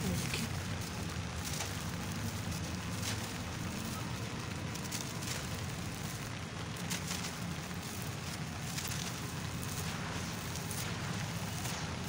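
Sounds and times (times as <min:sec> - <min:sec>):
faint crackling ticks: 0:00.0 - 0:12.0
steady rain falling: 0:00.0 - 0:12.0.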